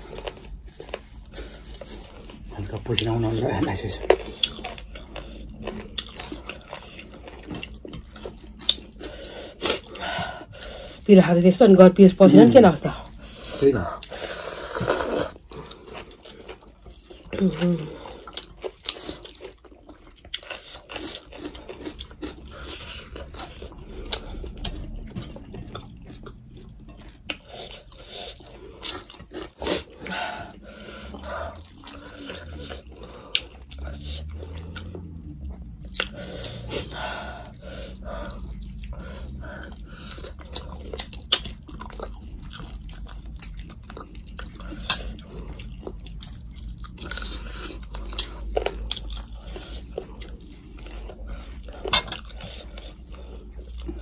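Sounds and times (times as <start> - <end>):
people chewing and mouth smacks: 0.0 - 54.0.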